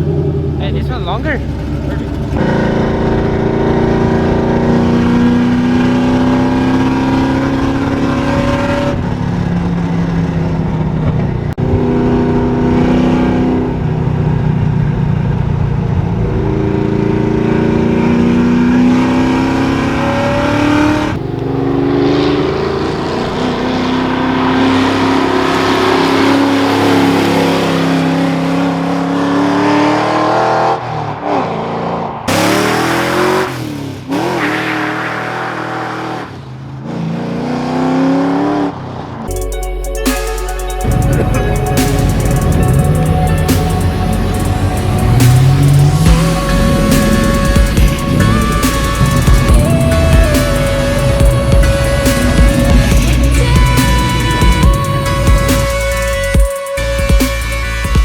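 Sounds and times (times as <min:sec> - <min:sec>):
car engine accelerating through gears: 0:00.0 - 0:39.4, 0:40.8 - 0:56.4.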